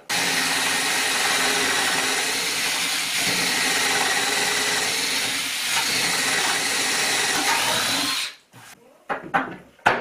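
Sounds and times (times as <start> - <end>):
cordless drill boring wood: 0.0 - 8.4.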